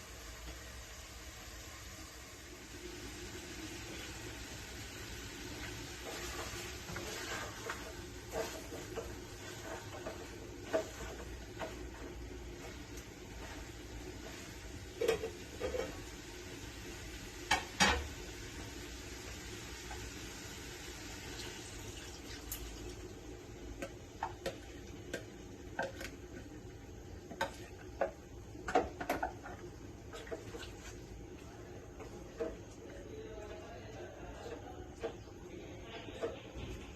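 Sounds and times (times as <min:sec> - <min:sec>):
faint background hum: 0:00.0 - 0:36.9.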